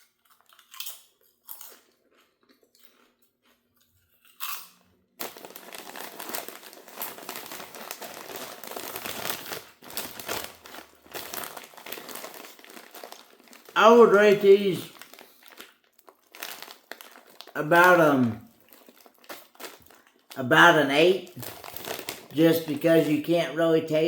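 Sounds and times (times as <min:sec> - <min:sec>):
potato chips crunching: 0:00.0 - 0:24.0.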